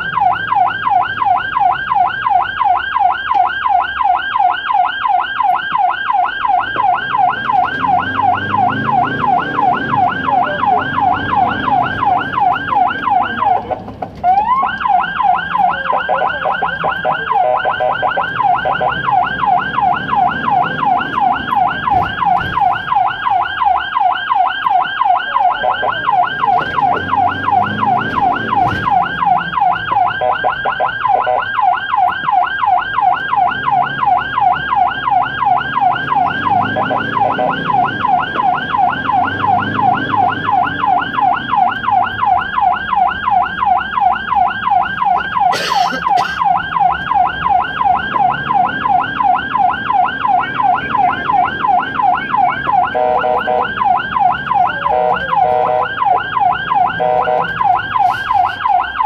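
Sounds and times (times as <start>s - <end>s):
ambulance siren yelping: 0.0s - 59.0s.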